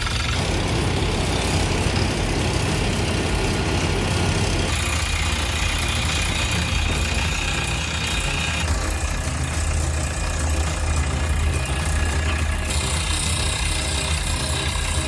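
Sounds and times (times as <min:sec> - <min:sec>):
diesel engine of heavy machine: 0:00.0 - 0:15.0.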